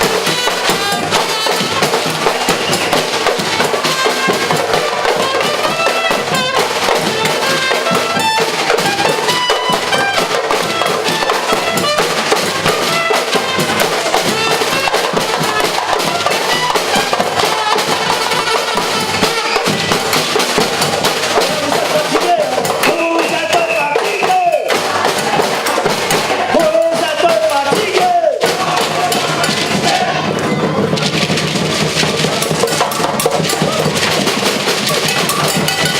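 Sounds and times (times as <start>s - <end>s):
percussion group drumming: 0.0s - 35.9s.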